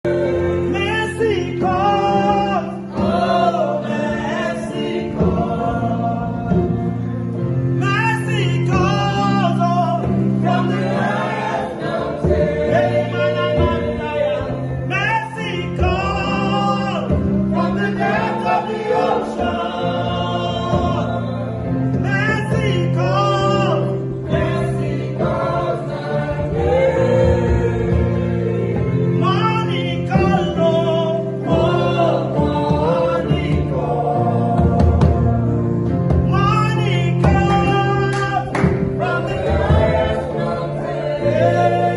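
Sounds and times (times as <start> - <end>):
choir singing gospel song: 0.0 - 41.9.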